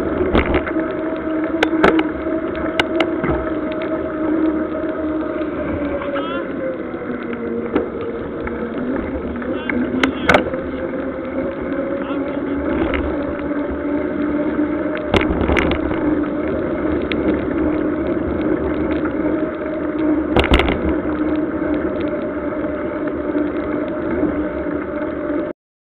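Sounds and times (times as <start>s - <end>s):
bike tyres humming on wet asphalt: 0.0s - 25.5s.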